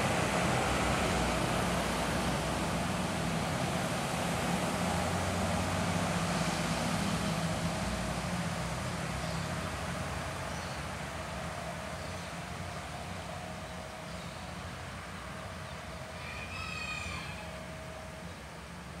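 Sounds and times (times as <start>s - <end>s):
motor traffic: 0.0s - 19.0s.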